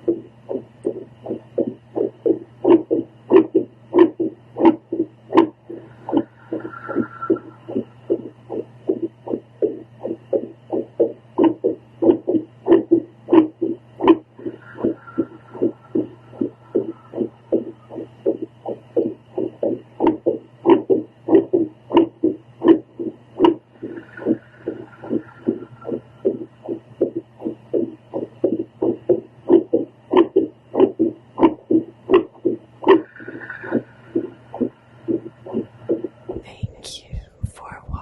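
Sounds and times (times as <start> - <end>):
heartbeat through doppler monitor: 0.0 - 38.0
low hum: 0.0 - 38.0.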